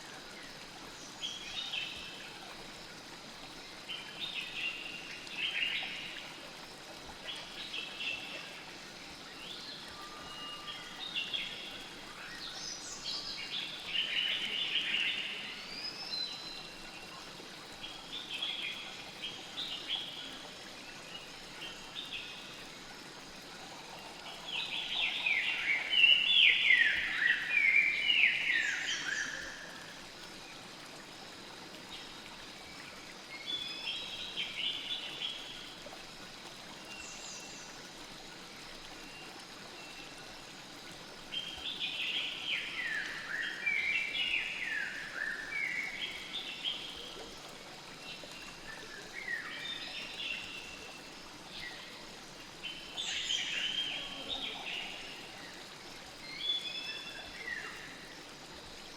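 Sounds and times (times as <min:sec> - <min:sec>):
flowing river water: 0:00.0 - 0:58.9.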